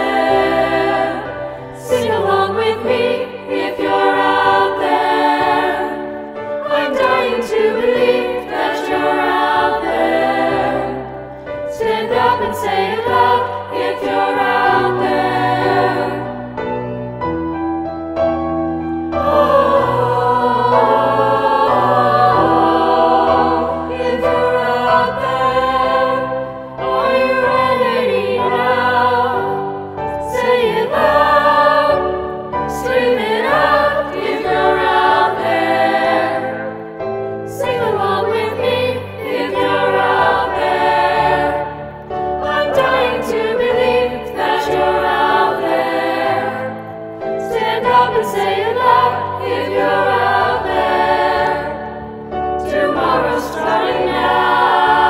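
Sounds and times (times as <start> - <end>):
youth choir singing: 0.0 - 16.6, 19.1 - 55.0.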